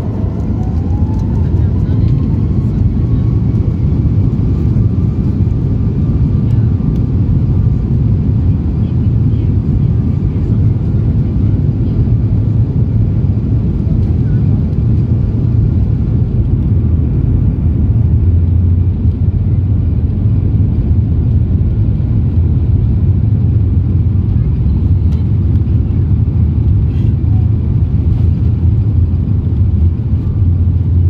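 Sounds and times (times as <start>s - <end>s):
airplane engines and wheels rumbling: 0.0s - 31.0s.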